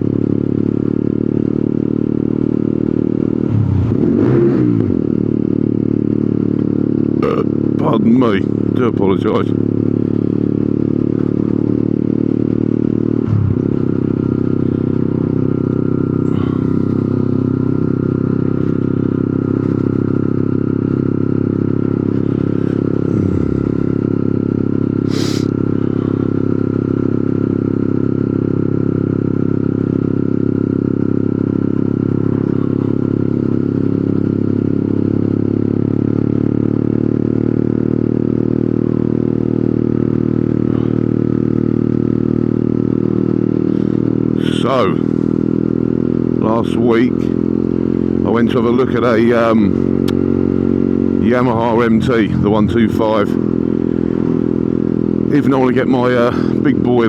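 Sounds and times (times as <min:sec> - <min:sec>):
motorcycle engine idling: 0:00.0 - 0:04.0, 0:04.7 - 0:57.0.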